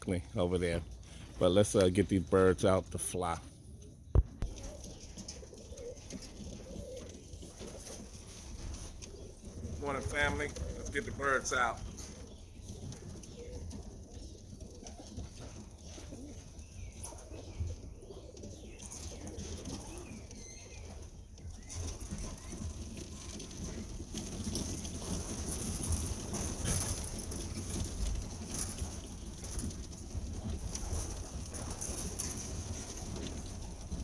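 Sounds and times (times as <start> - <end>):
pigeons cooing: 3.1 - 34.0
wings flapping: 4.2 - 34.0.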